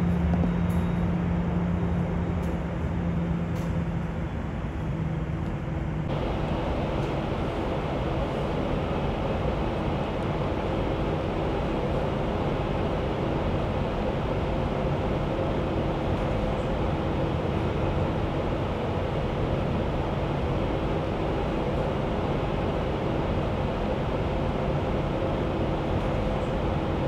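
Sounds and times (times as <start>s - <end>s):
jet engines roaring: 1.8s - 27.0s
faint steady hum: 4.3s - 27.0s.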